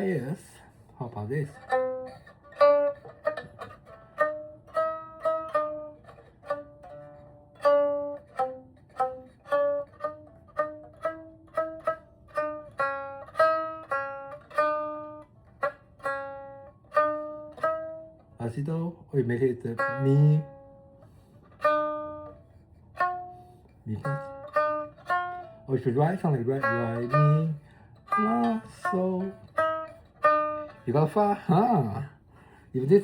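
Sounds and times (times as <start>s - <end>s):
plucked lute melody: 0.0s - 33.0s.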